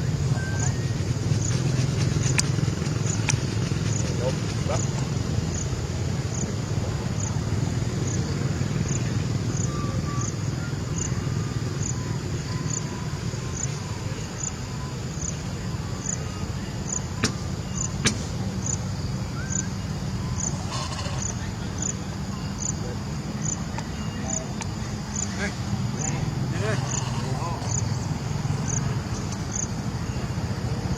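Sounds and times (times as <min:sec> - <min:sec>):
insect chirping: 0:00.0 - 0:30.9.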